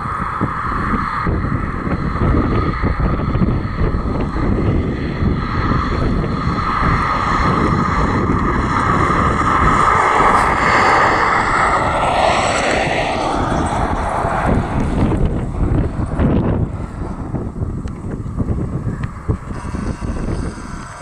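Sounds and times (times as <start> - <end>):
airplane engines passing: 0.0 - 21.0
wind buffeting microphone: 0.0 - 21.0.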